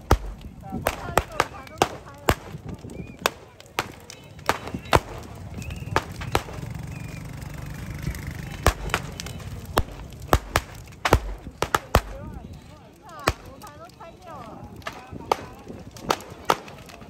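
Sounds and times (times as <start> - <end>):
crowd voices: 0.0 - 17.0
firecrackers cracking: 0.0 - 17.0.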